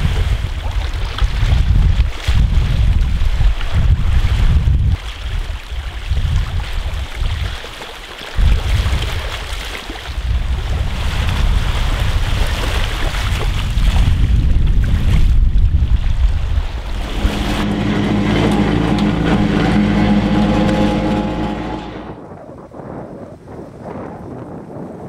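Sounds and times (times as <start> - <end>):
wind buffeting microphone: 0.0 - 7.6, 10.1 - 25.0.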